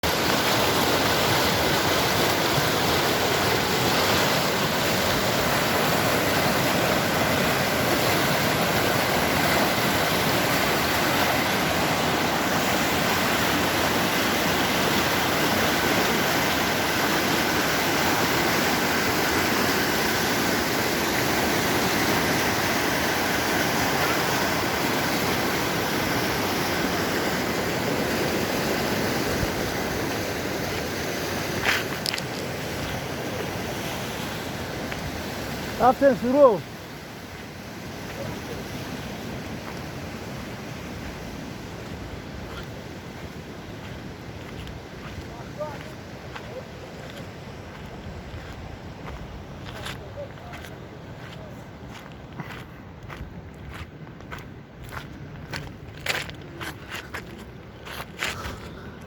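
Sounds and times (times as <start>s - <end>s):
fast-flowing stream rushing: 0.0s - 59.0s.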